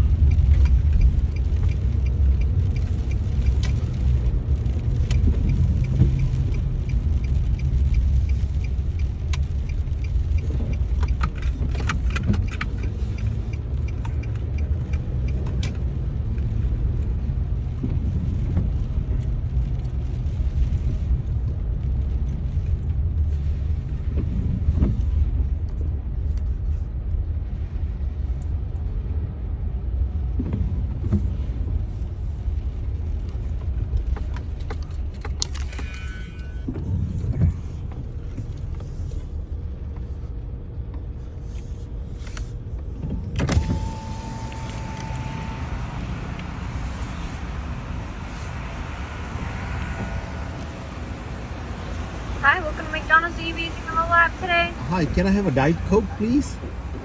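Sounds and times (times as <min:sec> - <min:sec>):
car cabin rumble: 0:00.0 - 0:57.0.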